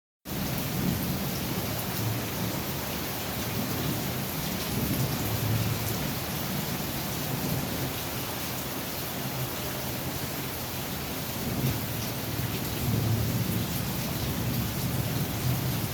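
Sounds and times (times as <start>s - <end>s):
heavy rain pouring: 0.3s - 15.9s.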